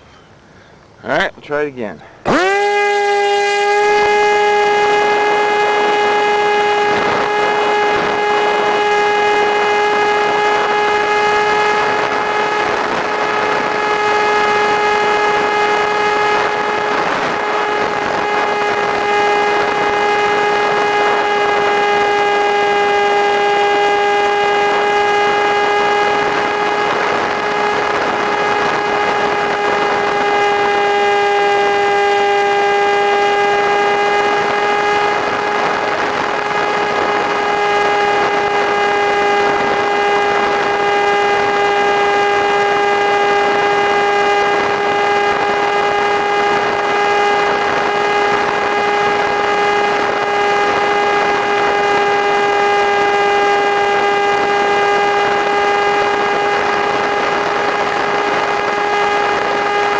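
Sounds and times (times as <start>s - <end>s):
electric motor high whine: 2.2s - 59.9s.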